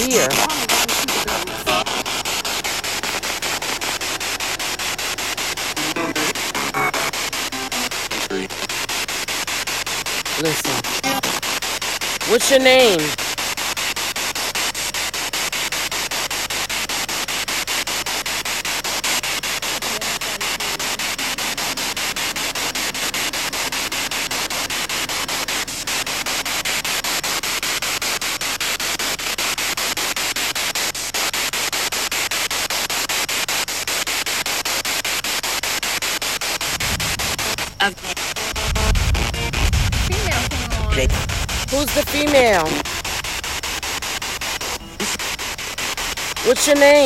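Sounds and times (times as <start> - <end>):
pulsing radio static hiss: 0.0 - 47.0.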